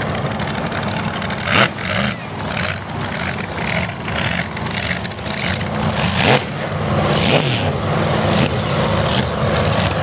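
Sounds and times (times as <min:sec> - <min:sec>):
race boat engines at full speed: 0:00.0 - 0:10.0.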